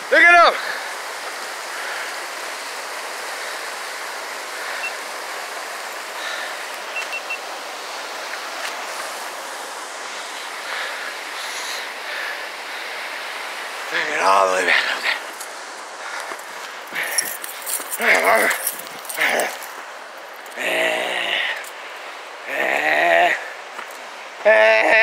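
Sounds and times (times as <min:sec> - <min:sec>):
creek running over rapids: 0:00.0 - 0:25.0.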